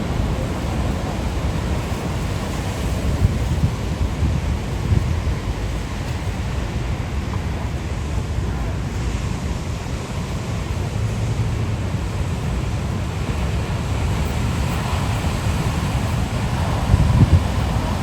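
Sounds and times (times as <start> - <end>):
ocean waves washing ashore: 0.0 - 18.0
wind rumbling on microphone: 0.0 - 18.0.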